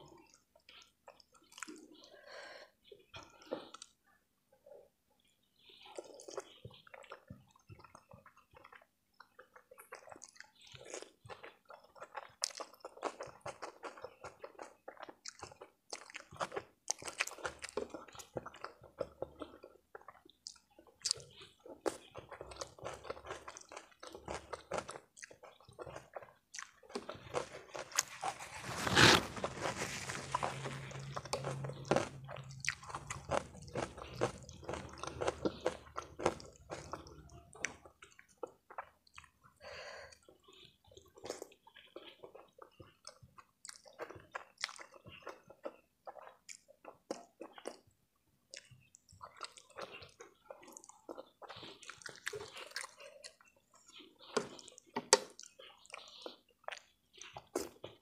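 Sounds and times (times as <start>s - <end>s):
chewing noodles: 0.0s - 4.8s, 5.4s - 58.0s.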